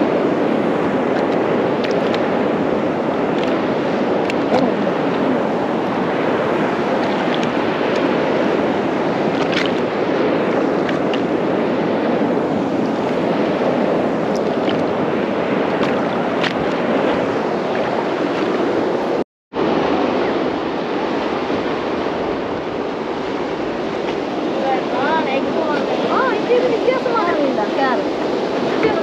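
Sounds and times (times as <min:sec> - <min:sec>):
sea water sloshing around boat: 0:00.0 - 0:29.0
wind buffeting microphone: 0:00.0 - 0:29.0.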